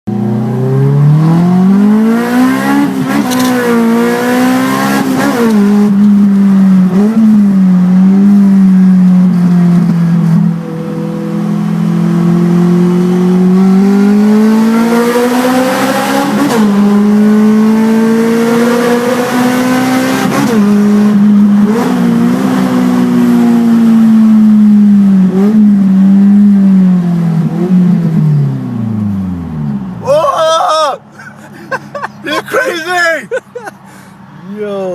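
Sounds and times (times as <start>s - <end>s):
car engine accelerating: 0.1s - 30.2s.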